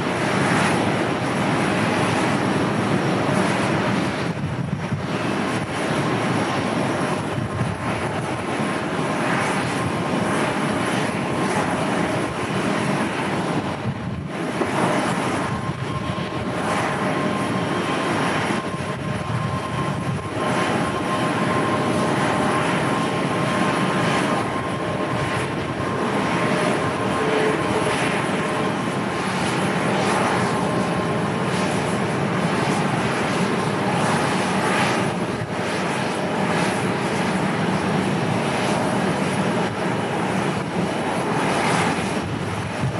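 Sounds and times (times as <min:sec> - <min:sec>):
gusting wind: 0:00.0 - 0:42.9
jet engines running: 0:00.0 - 0:42.9.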